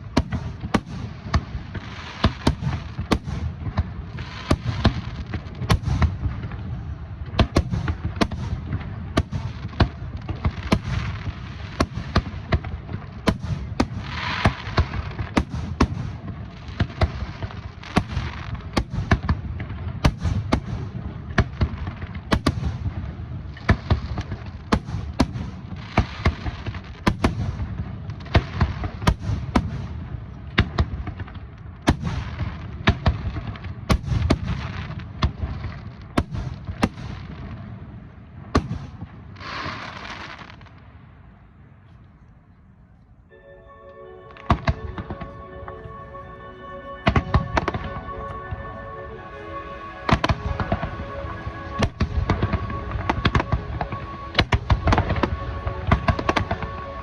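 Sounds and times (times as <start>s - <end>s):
fireworks crackling hiss: 0.0s - 19.4s, 20.0s - 30.0s, 31.9s - 40.8s, 44.0s - 57.0s.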